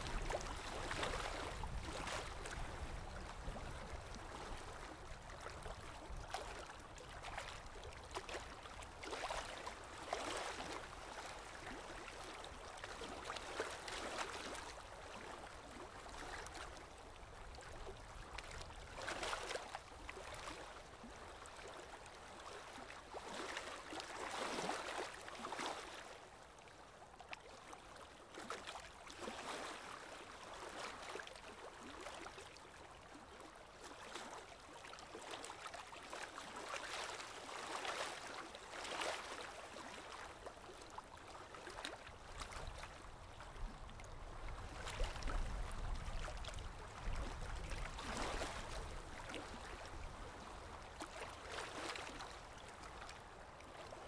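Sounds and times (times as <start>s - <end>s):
lake water splashing: 0.0s - 26.7s, 27.5s - 54.0s.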